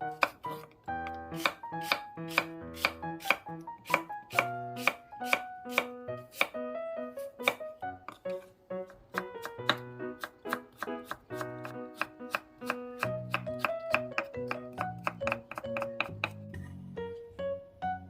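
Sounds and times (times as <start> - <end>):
knife chopping vegetables: 0.0 - 6.6, 7.2 - 16.7
background music: 0.0 - 18.0.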